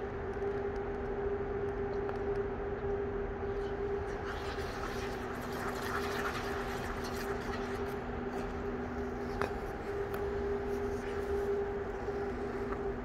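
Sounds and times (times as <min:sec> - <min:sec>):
two-note machinery hum: 0:00.0 - 0:13.0.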